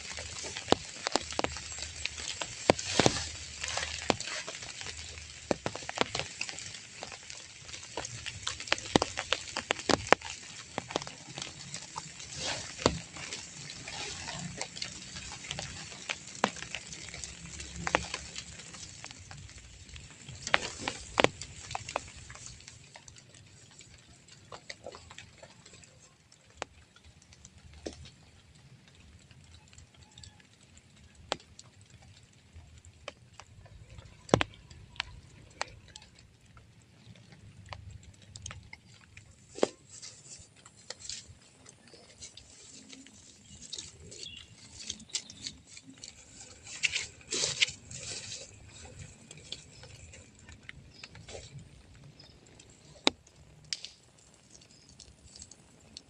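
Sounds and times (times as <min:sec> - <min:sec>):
raindrops pattering: 0:00.0 - 0:56.0
steady hiss of rain: 0:00.0 - 0:56.0.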